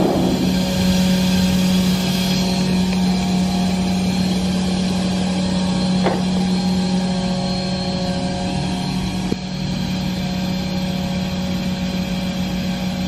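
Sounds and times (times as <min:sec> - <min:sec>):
machine humming with high tones: 0:00.0 - 0:13.0.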